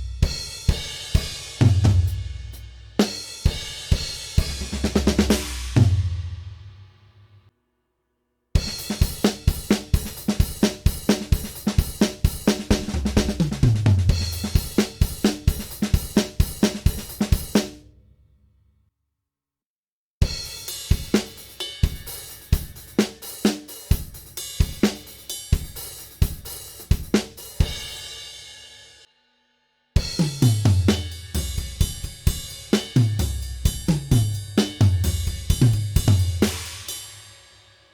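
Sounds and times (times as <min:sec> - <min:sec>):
drum kit groove: 0:00.0 - 0:06.9, 0:08.6 - 0:17.9, 0:20.2 - 0:28.6, 0:30.0 - 0:37.4.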